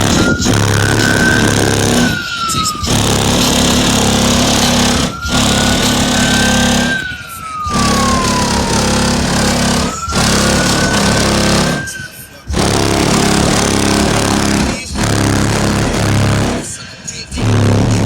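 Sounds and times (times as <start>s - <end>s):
bass-heavy music through subwoofers: 0.0s - 7.0s, 7.7s - 11.8s, 12.4s - 18.0s
high synth tone rising and falling: 0.0s - 18.0s.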